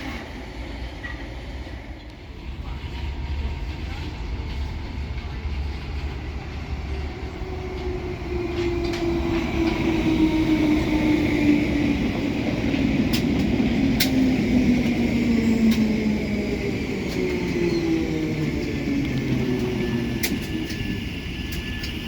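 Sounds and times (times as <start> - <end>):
train traction motors whining: 0.0 - 22.0.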